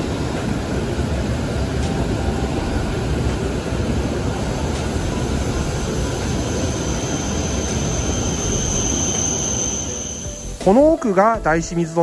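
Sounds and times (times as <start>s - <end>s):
train rumbling slowly: 0.0s - 12.0s.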